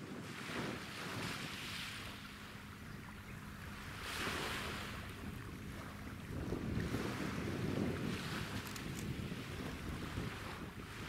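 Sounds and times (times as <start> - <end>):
faint ship engine drone: 0.0 - 11.0
small waves washing on shore: 0.0 - 11.0
wind rumble on microphone: 0.0 - 11.0.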